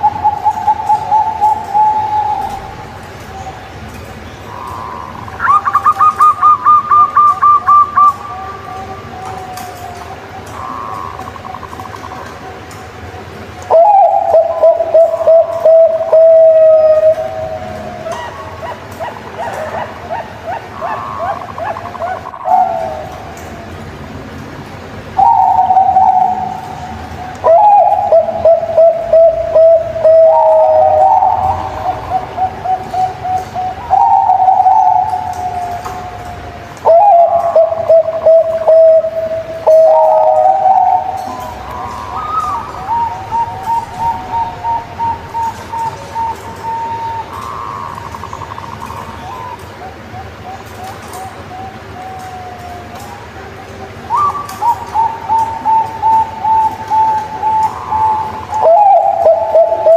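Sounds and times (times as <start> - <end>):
dove cooing: 0.0 - 3.6, 4.4 - 23.8, 25.2 - 59.9.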